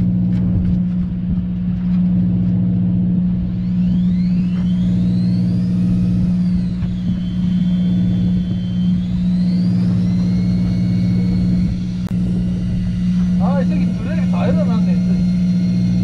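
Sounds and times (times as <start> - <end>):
boat engine low hum: 0.0 - 16.0
fishing reel whine: 0.0 - 16.0.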